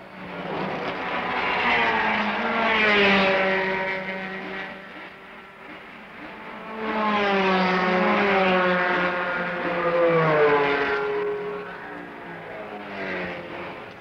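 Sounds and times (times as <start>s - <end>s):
race car engine passing by: 0.2s - 14.0s.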